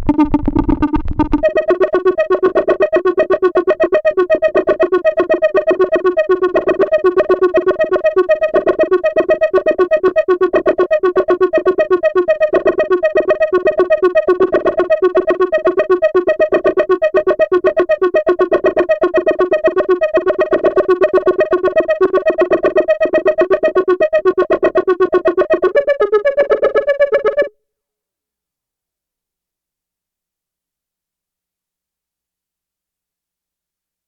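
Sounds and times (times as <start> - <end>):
synthesizer pulsing tones: 0.0 - 27.5.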